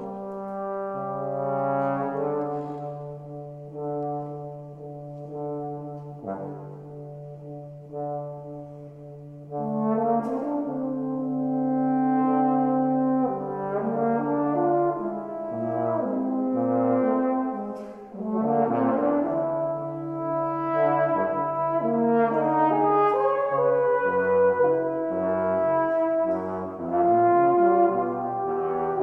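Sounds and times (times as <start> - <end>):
bass trombone low notes: 0.0 - 29.0
tenor trombone melody: 0.0 - 29.0.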